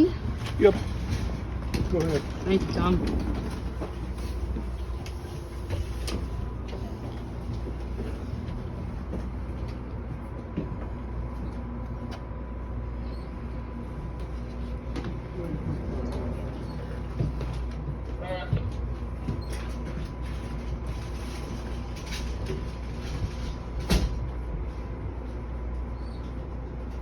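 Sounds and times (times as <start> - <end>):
train engine rumbling: 0.0 - 27.0.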